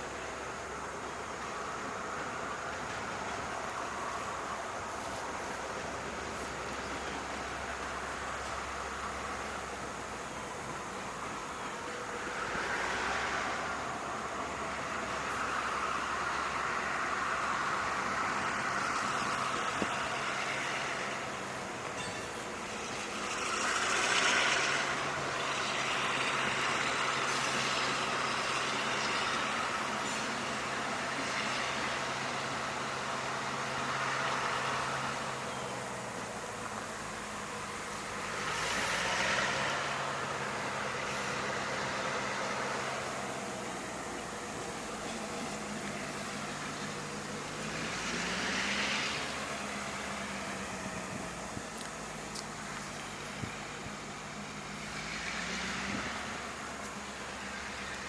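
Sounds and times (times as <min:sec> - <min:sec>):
diesel locomotive idling: 0:00.0 - 0:58.0.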